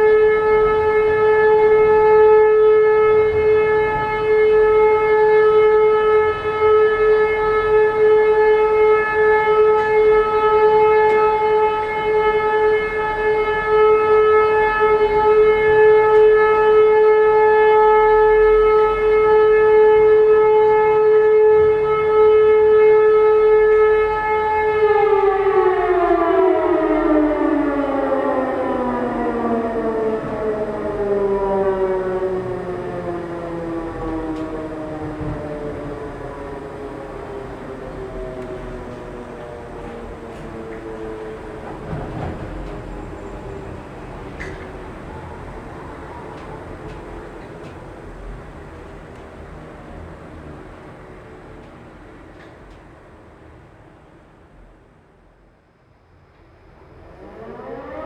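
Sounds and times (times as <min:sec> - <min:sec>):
civil defence siren: 0:00.0 - 0:58.0.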